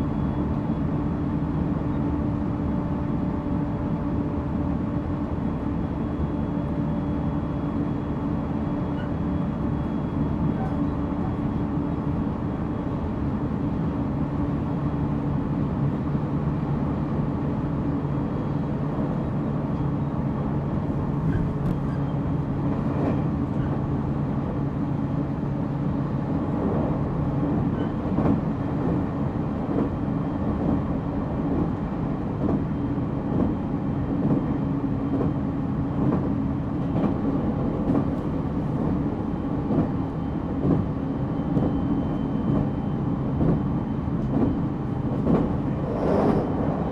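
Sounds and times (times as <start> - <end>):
electric train running rumble: 0.0 - 46.9.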